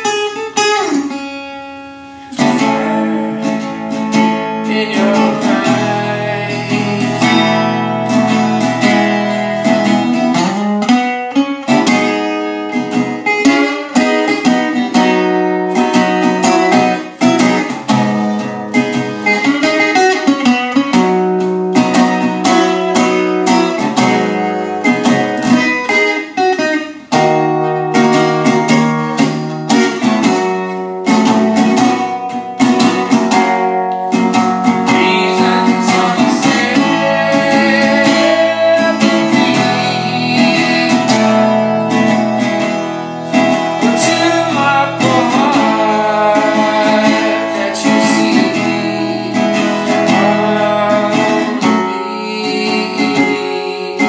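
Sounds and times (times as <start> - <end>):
resonator guitar finger-style: 0.0 - 54.0.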